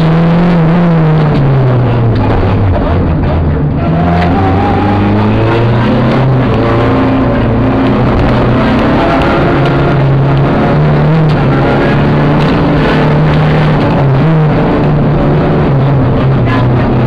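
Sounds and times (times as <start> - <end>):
rally car engine revving: 0.0 - 17.0
road and tyre noise: 0.0 - 17.0.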